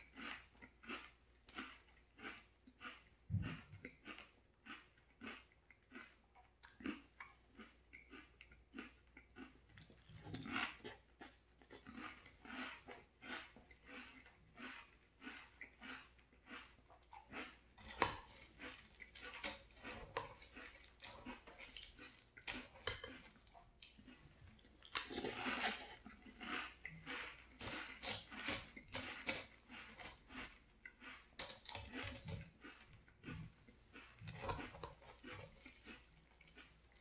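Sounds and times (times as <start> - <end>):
chewing crunchy cereal: 0.0 - 37.0.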